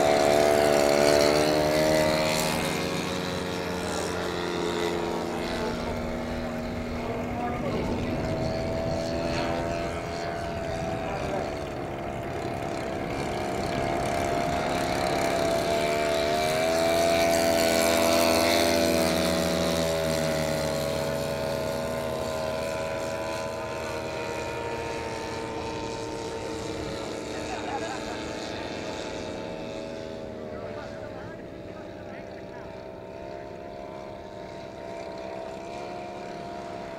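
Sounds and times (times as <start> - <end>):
model plane engines droning: 0.0 - 36.9
model plane passing by: 0.0 - 36.9.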